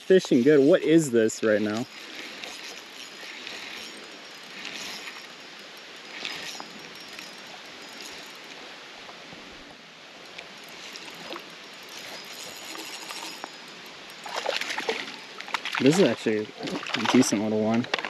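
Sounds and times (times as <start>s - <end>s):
running water: 0.0s - 18.0s.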